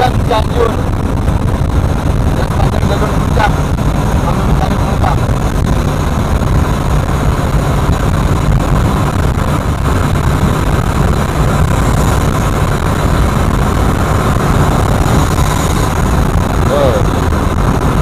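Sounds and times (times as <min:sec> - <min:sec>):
coach engine drone: 0:00.0 - 0:18.0
road noise: 0:00.0 - 0:18.0.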